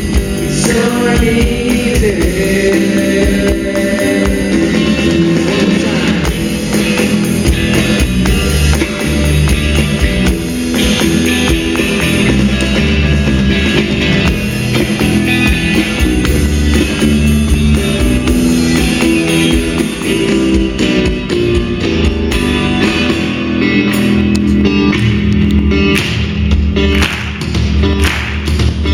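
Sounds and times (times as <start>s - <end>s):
band music: 0.0s - 28.9s
drum kit: 0.0s - 28.9s
strummed guitar: 0.0s - 28.9s.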